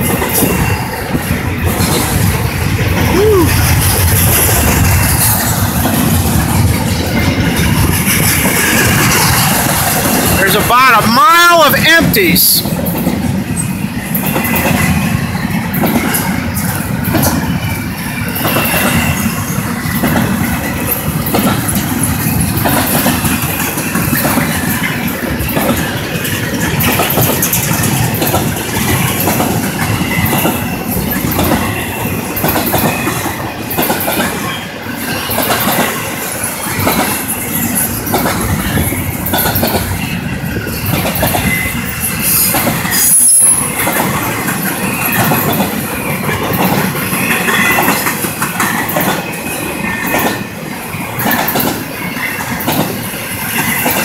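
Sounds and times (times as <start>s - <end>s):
wheels clattering over rail joints: 0.0s - 10.8s, 12.6s - 54.0s
rumble of train wheels on rails: 0.0s - 54.0s.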